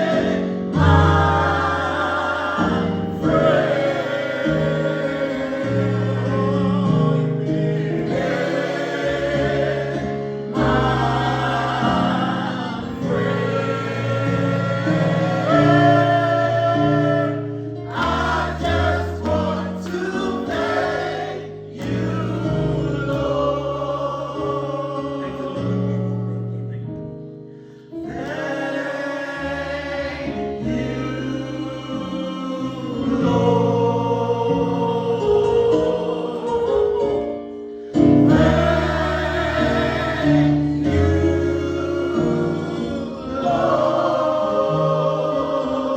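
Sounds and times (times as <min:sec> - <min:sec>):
choir singing gospel: 0:00.0 - 0:26.8, 0:27.6 - 0:45.9.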